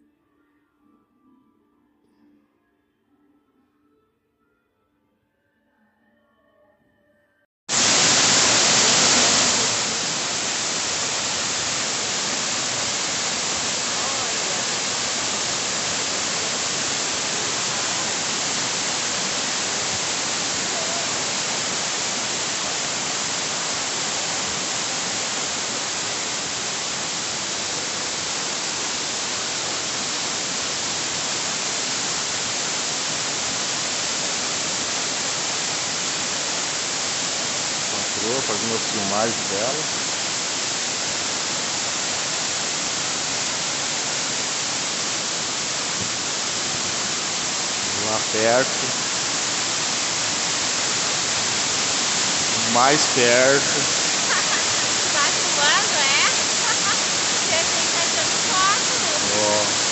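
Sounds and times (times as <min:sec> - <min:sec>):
waterfall and stream rushing: 0:07.7 - 0:59.9.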